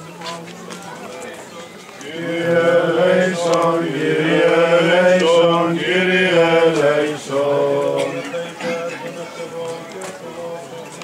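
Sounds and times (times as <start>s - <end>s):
voices chanting slow melody: 2.0s - 10.9s.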